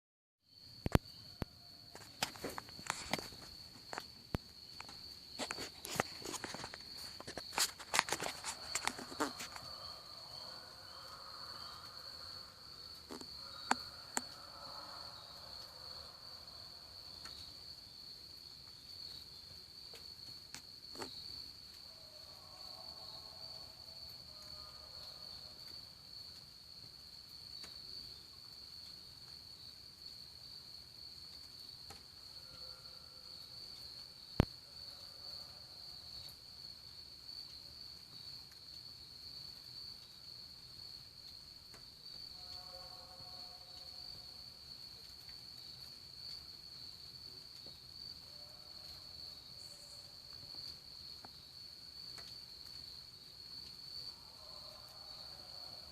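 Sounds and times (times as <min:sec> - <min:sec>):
low-pitched insect calls: 0:00.5 - 0:55.9
night insects chirping: 0:00.5 - 0:55.9.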